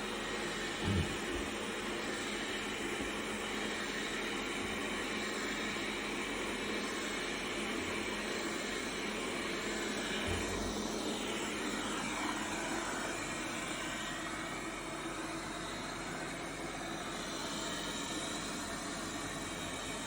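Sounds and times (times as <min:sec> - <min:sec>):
robot vacuum cleaner running: 0:00.0 - 0:20.0.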